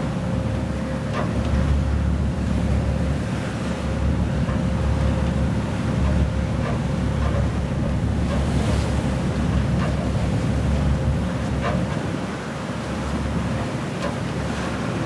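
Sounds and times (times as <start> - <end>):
ship engine rumble: 0.0 - 15.0.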